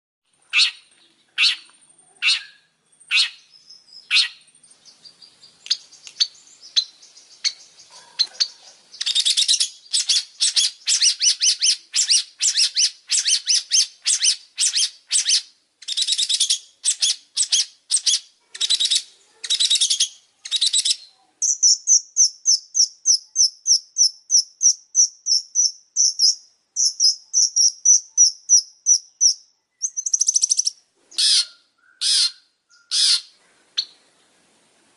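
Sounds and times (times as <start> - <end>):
bird harsh chattering song: 0.4 - 34.0.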